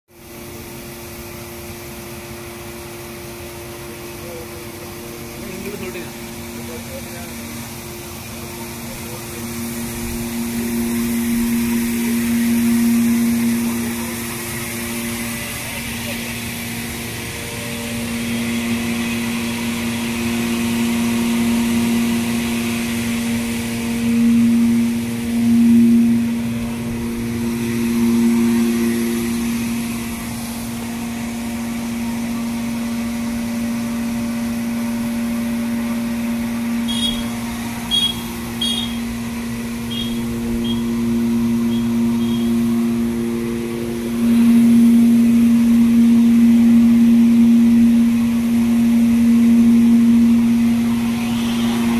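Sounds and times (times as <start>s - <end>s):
mill machinery humming: 0.1s - 51.9s.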